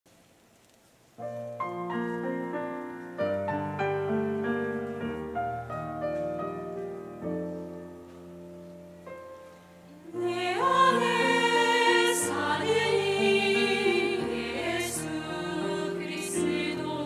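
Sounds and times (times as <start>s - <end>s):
slow grand piano chords: 1.2s - 17.0s.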